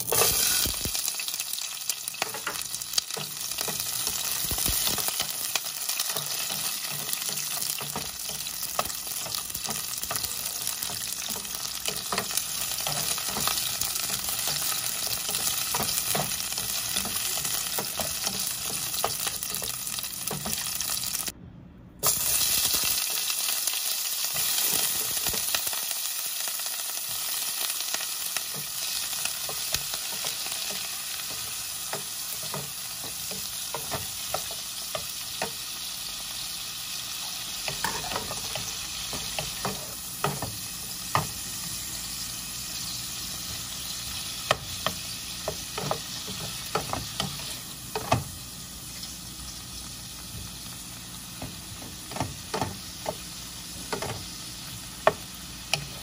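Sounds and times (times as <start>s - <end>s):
shrimp sizzling in oil: 0.0s - 21.3s, 22.0s - 56.0s
vegetables sizzling in hot oil: 0.0s - 21.3s, 22.0s - 56.0s.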